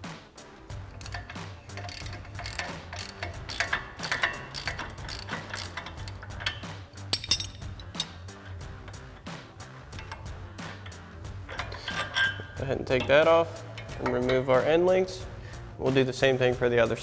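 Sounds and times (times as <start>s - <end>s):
faint background music: 0.0s - 17.0s
hand ratchet clicking: 0.7s - 14.5s.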